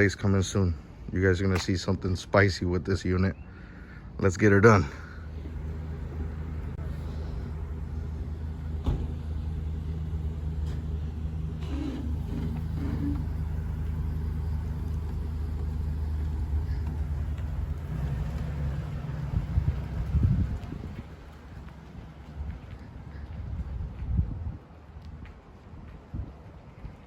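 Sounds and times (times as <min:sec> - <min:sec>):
vehicle driving on road: 0:00.0 - 0:27.0.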